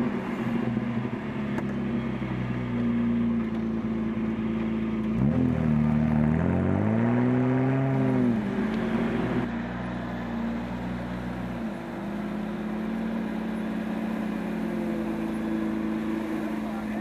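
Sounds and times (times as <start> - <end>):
steady engine hum: 0.0 - 17.0.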